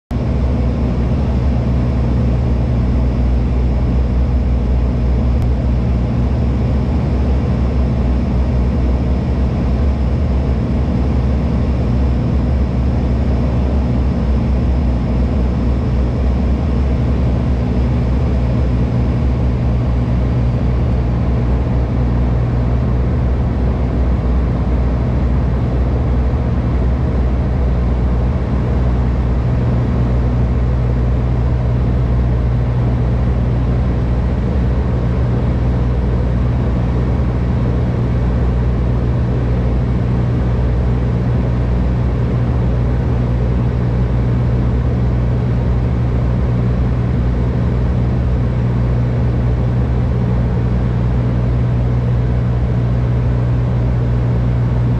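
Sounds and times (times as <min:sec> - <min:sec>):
propeller plane cabin drone: 0:00.1 - 0:54.9.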